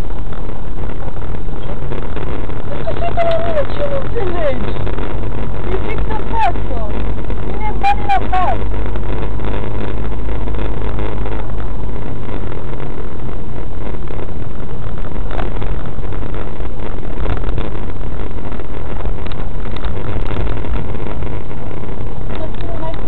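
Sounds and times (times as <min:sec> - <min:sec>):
car engine running: 0:00.0 - 0:23.0
road noise: 0:00.0 - 0:23.0.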